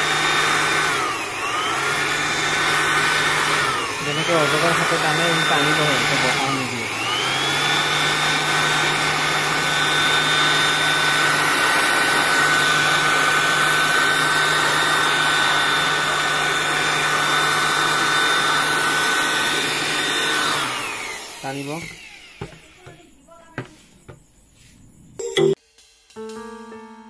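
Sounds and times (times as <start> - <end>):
electric blower motor whine: 0.0 - 23.0.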